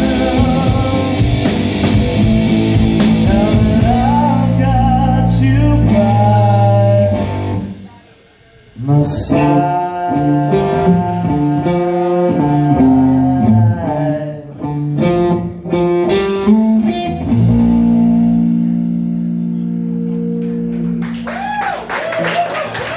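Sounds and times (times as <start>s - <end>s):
rock band playing: 0.0s - 22.2s
electric guitar: 0.0s - 22.9s.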